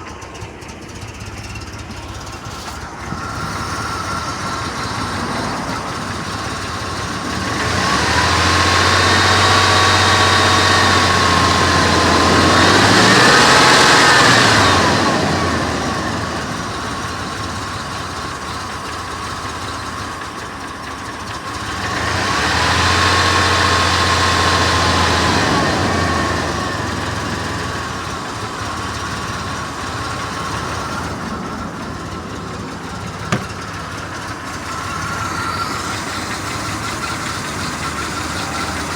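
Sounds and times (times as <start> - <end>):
car engine rough idle: 0.0 - 38.9
engine whine: 0.0 - 38.9.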